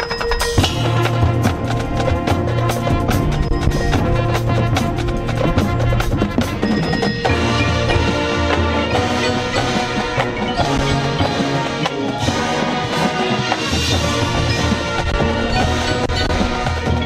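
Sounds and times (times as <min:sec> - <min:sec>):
marching band playing: 0:00.0 - 0:17.0
sharp percussive hits: 0:00.0 - 0:17.0.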